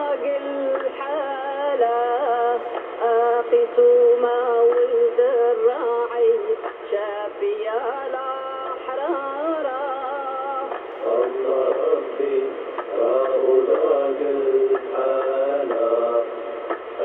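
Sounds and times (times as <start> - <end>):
liturgical singing over am radio: 0.0 - 17.0.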